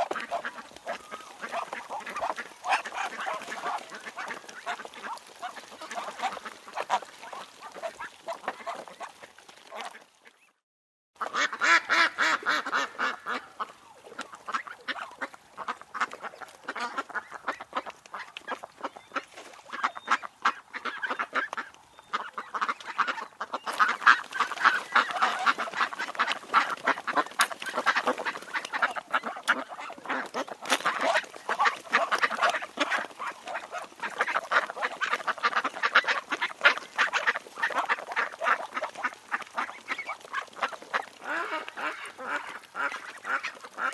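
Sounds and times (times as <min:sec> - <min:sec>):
ducks quacking: 0:00.0 - 0:10.5, 0:11.2 - 0:43.9.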